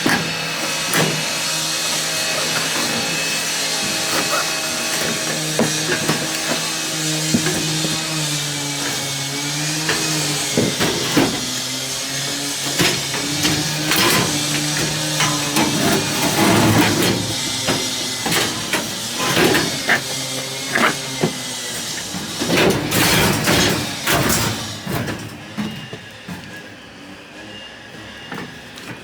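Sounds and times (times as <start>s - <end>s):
scrap metal clanking: 0.0s - 26.7s.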